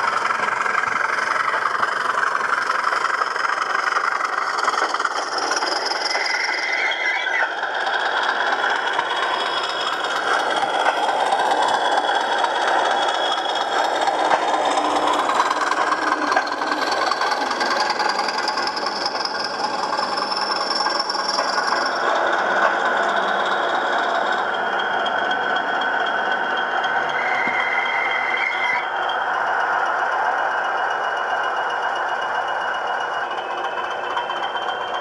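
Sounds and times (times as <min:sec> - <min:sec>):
model train wheels rattling on track: 0:00.0 - 0:35.0
recorded diesel engine sound: 0:00.0 - 0:35.0.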